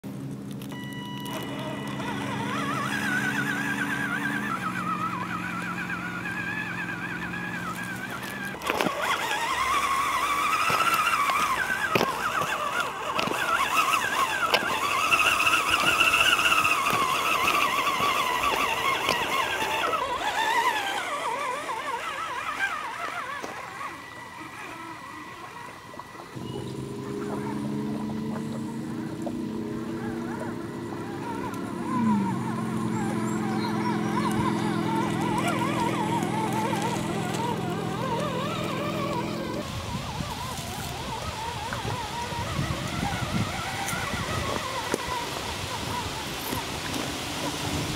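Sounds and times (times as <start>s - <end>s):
tyres crunching on gravel: 0.2s - 24.7s, 25.4s - 47.9s
electric motor whining: 0.5s - 47.9s.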